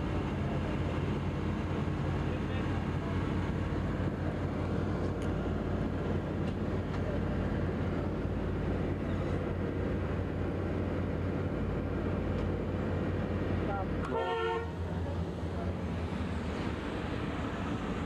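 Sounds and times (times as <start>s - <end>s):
highway traffic rumble: 0.0s - 18.0s.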